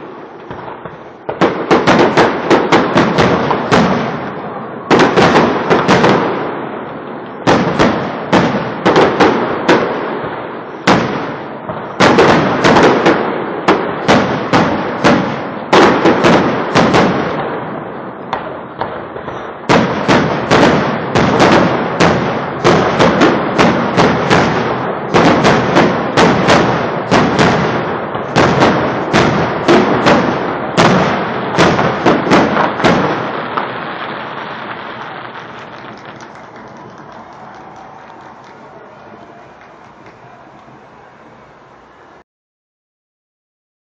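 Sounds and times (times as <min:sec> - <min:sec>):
fireworks bangs and crackling: 0:00.0 - 0:42.1.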